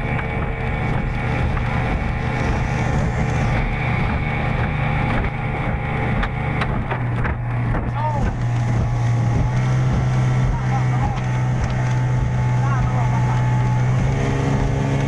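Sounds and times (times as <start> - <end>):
speedboat engine droning: 0.0 - 15.0.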